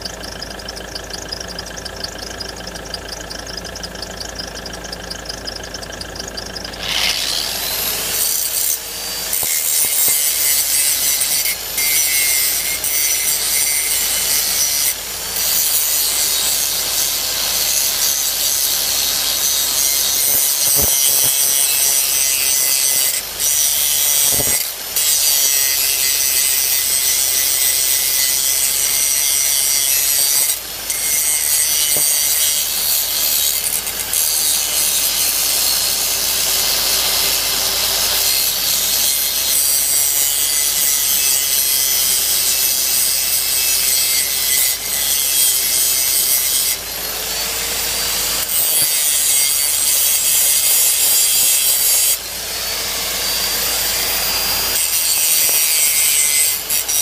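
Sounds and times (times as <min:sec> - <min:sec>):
angle grinder grinding steel: 0:00.0 - 0:57.0.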